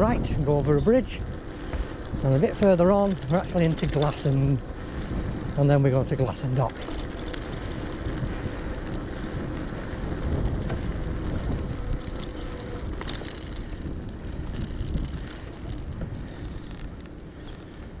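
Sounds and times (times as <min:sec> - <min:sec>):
bike tyre rumble on road: 0:00.0 - 0:18.0
wind buffeting microphone: 0:00.0 - 0:18.0.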